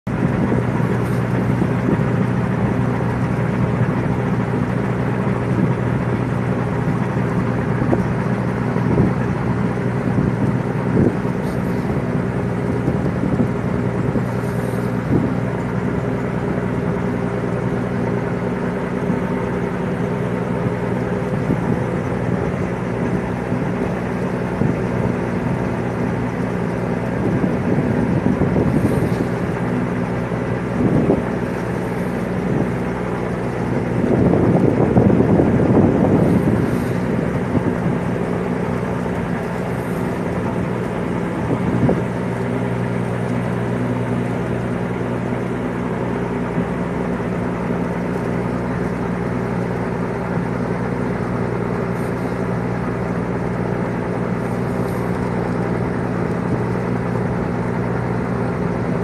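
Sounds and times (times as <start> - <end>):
boat engine droning: 0.0 - 59.0
hull moving through sea ice: 0.0 - 59.0.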